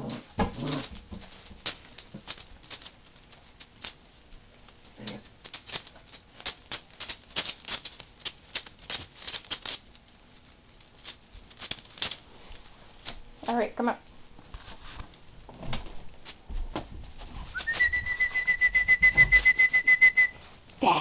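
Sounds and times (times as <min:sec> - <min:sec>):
puppies clicking and rattling: 0:00.0 - 0:13.6, 0:15.0 - 0:20.8.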